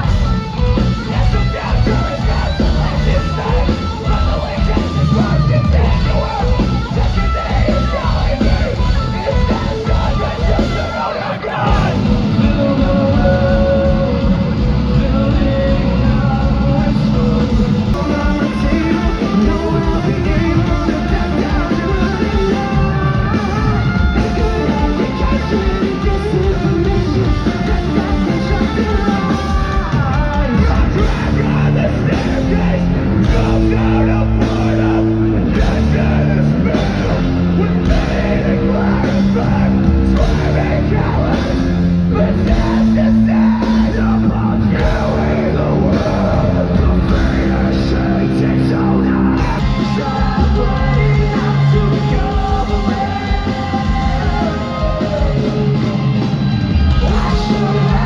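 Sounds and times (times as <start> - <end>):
guitars: 0.0 - 58.0
loud rock music: 0.0 - 58.0
sung and yelled vocals: 0.0 - 58.0.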